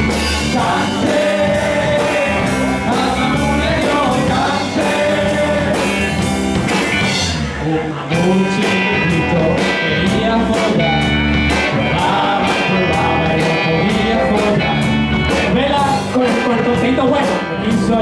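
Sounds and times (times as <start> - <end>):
drum kit beat: 0.0 - 18.0
electric bass: 0.0 - 18.0
electric guitar: 0.0 - 18.0
man singing into a microphone: 0.3 - 6.2, 7.6 - 18.0.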